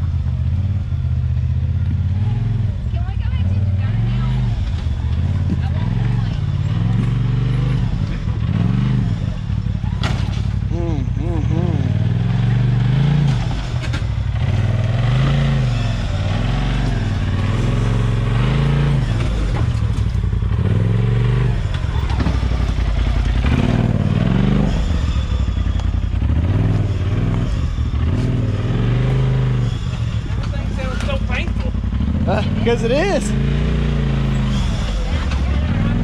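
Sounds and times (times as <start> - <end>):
utility vehicle engine revving: 0.0 - 36.0.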